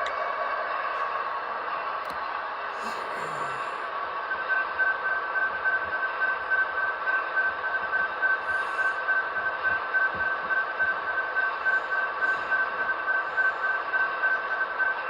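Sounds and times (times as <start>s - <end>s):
pulsing high electronic ringing tone: 2.8s - 15.0s.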